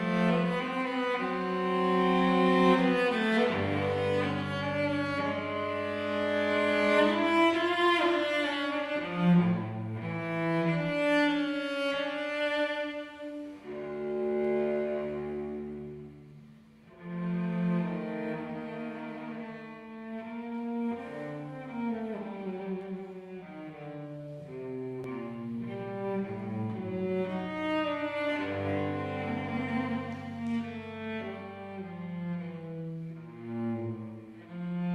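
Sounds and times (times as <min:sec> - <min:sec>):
cello playing slow melody: 0:00.0 - 0:34.9.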